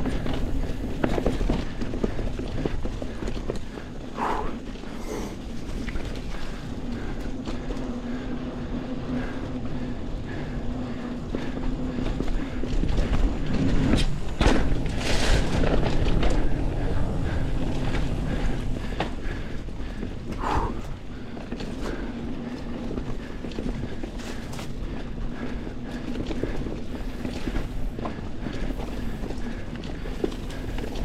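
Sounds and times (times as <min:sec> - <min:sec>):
bike rattling: 0:00.0 - 0:31.0
bike tyres rumbling on dirt: 0:00.0 - 0:31.0.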